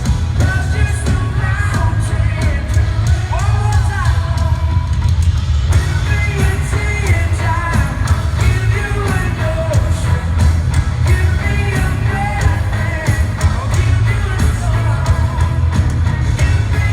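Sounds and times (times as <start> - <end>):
man singing: 0.0 - 5.0, 5.7 - 16.9
pop-rock band playing: 0.0 - 16.9.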